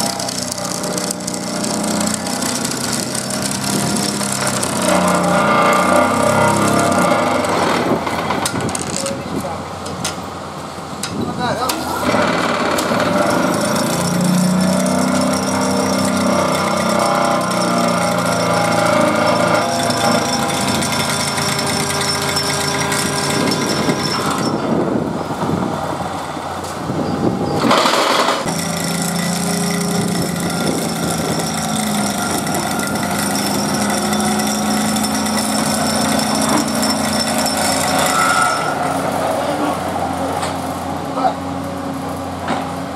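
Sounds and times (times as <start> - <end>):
hydraulic pile driver droning: 0.0 - 9.2, 11.6 - 42.9.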